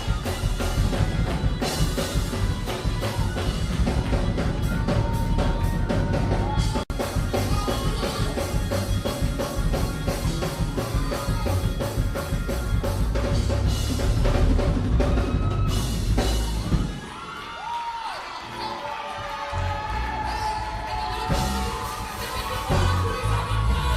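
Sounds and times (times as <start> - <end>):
bass: 0.0 - 17.2, 18.4 - 23.9
drum kit playing steady beat: 0.0 - 17.4, 19.6 - 23.9.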